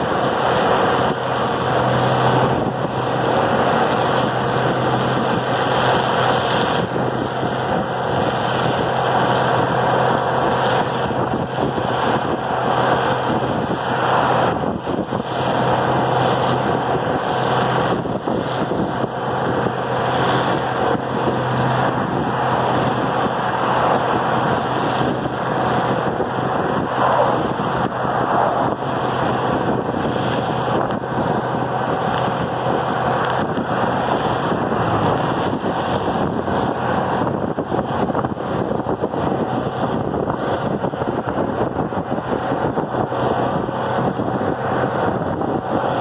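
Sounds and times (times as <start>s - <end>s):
tractor engine running: 0.0s - 46.0s
wind noise on microphone: 0.0s - 46.0s.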